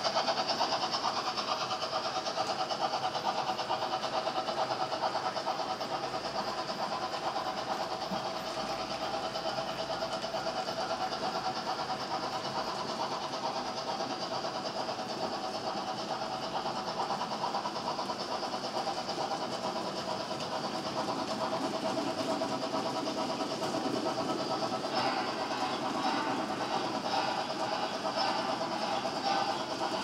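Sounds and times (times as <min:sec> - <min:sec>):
model train motors humming: 0:00.0 - 0:30.0
model train wheels clattering: 0:00.0 - 0:30.0.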